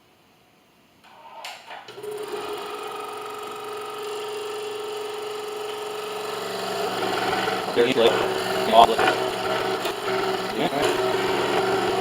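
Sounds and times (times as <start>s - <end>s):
scroll saw motor humming: 1.9s - 12.0s.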